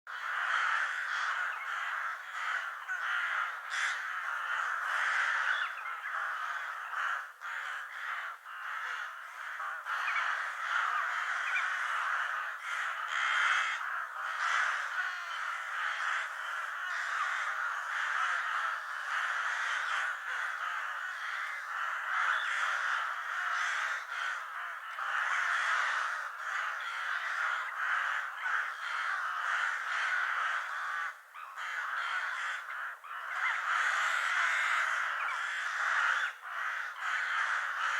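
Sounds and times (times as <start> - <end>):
crows cawing: 0.1 - 37.9.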